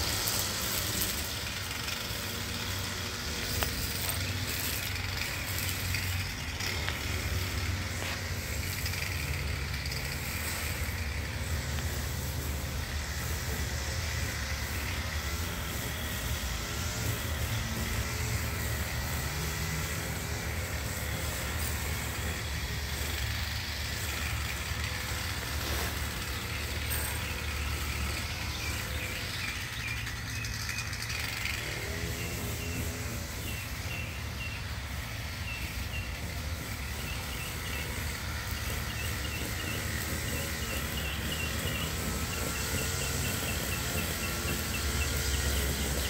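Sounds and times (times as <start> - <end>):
string trimmer cutting grass: 0.0 - 46.0.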